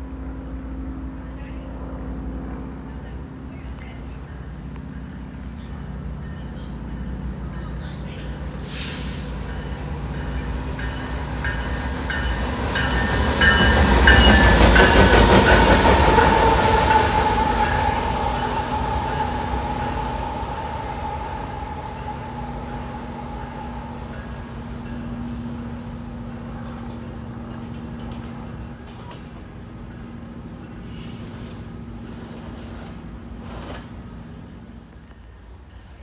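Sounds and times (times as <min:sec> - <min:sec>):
diesel locomotives rumbling past: 0:00.0 - 0:36.0.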